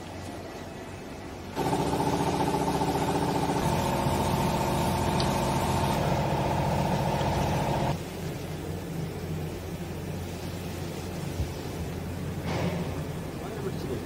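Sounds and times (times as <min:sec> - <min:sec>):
pump motor humming and pulsing: 0:00.0 - 0:14.0.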